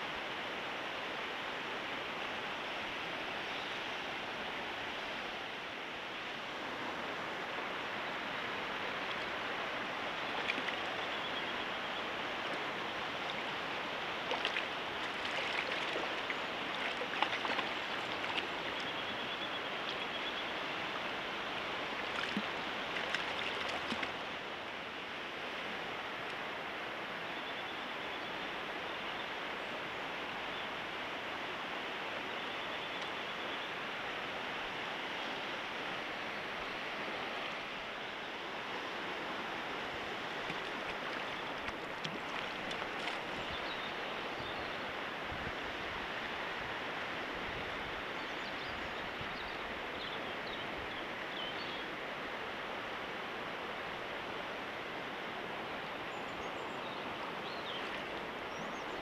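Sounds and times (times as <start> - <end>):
river current over stones: 0.0 - 59.0.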